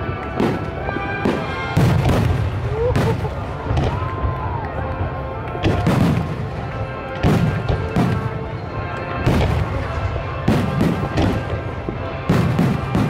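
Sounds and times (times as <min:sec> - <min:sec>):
rumbling echo: 0:00.0 - 0:13.0
fireworks booming: 0:00.2 - 0:13.0.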